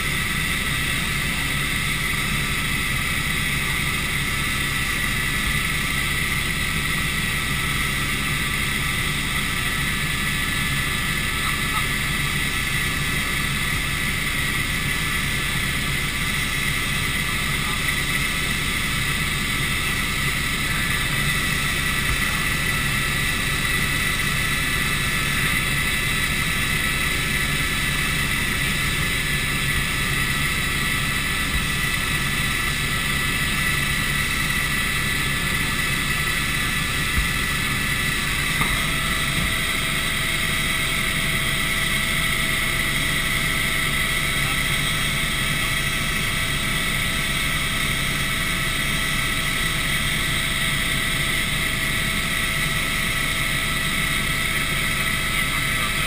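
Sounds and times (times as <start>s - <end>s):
helicopter rotor and engine: 0.0s - 56.0s
high whine: 0.0s - 56.0s.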